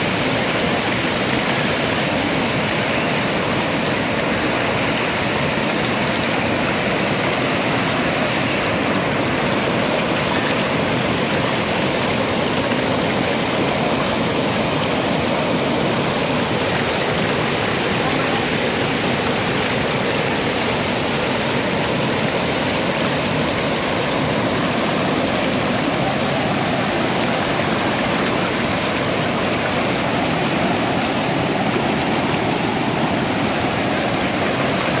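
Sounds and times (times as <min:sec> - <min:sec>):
river rushing through rapids: 0:00.0 - 0:35.0.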